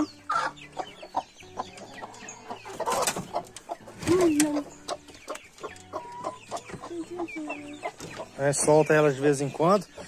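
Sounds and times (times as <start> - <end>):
hen clucking and squawking: 0.0 - 10.0.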